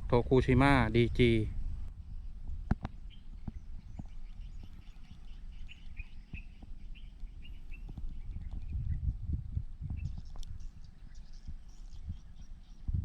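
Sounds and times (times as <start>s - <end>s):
steady low rumble: 0.0s - 13.0s
small birds chirping: 0.2s - 13.0s.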